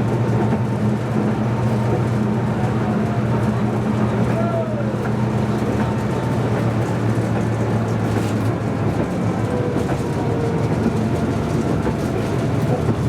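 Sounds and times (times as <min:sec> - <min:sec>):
tram low hum: 0:00.0 - 0:13.0
wheels rolling on track: 0:00.0 - 0:13.0.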